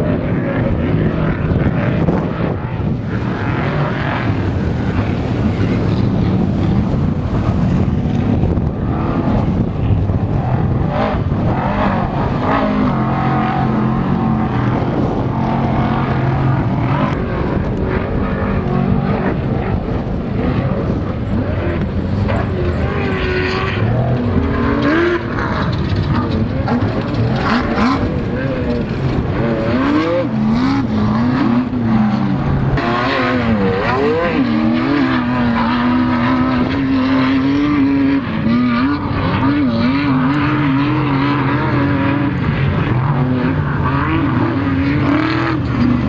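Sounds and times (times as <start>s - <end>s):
race vehicle engines revving: 0.0s - 46.0s.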